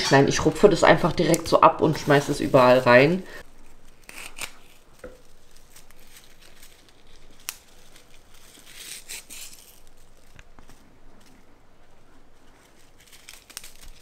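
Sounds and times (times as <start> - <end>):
dry leaves crackling: 0.3 - 14.0.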